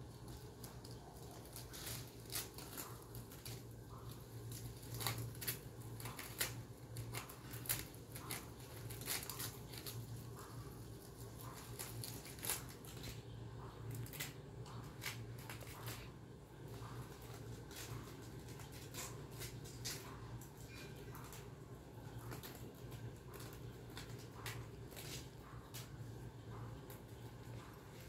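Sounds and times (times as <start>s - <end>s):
low steady hum: 0.0s - 28.0s
rabbits chewing leaves: 0.0s - 28.0s.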